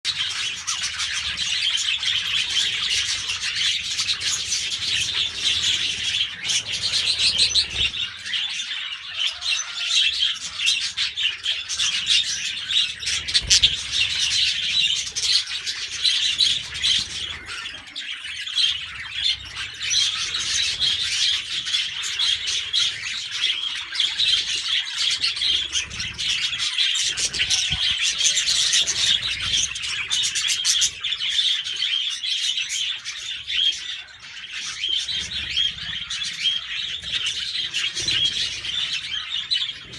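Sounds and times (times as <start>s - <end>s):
budgerigars chattering: 0.1s - 39.9s.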